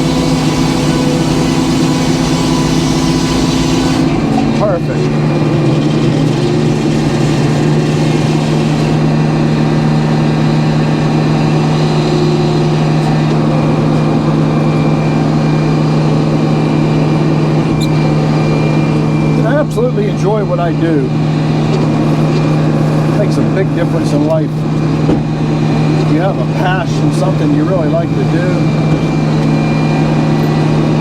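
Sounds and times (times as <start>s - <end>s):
sawmill engine droning: 0.0s - 31.0s.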